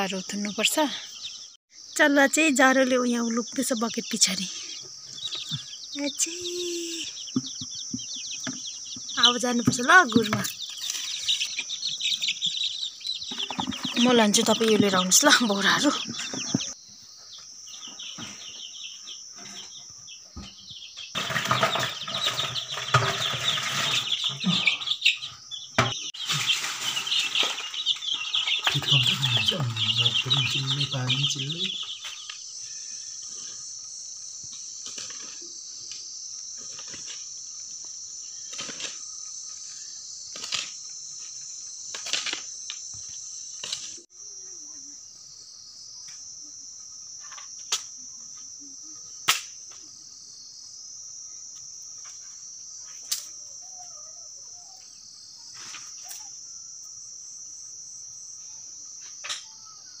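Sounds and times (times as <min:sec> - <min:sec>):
crickets chirring: 0:00.0 - 1:00.0.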